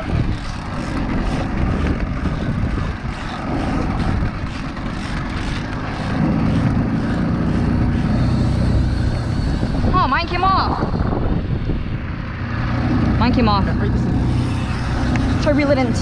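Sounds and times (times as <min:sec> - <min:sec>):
outboard motor running: 0:00.0 - 0:16.0
wind buffeting microphone: 0:00.0 - 0:16.0.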